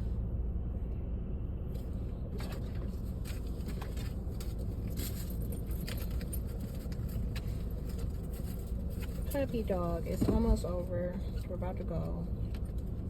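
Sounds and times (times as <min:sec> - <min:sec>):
car rumble: 0:00.0 - 0:13.0.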